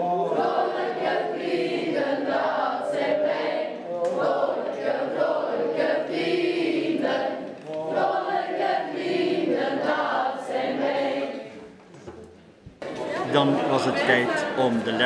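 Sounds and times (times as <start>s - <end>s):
group singing in chorus: 0.0s - 11.8s, 12.8s - 15.0s.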